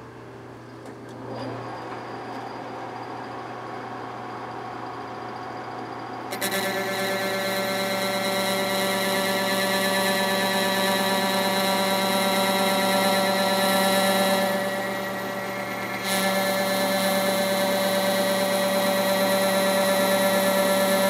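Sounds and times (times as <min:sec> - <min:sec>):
metal lathe humming: 0:01.1 - 0:21.0
parting tool ringing whine: 0:01.8 - 0:21.0.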